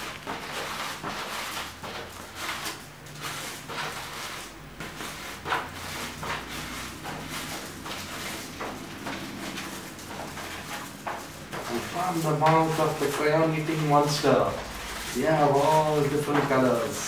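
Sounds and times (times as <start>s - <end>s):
paper rustling and sliding: 0.0s - 17.0s.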